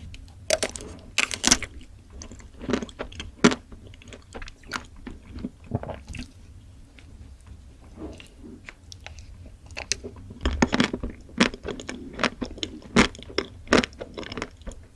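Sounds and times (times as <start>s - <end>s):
soft wet chewing: 0.2s - 14.9s.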